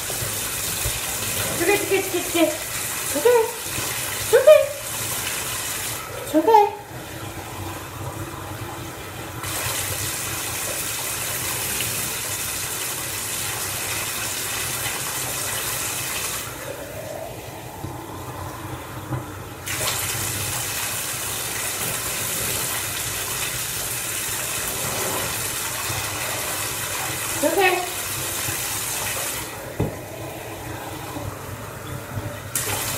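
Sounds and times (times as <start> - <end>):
bath water running into tub: 0.0 - 32.9.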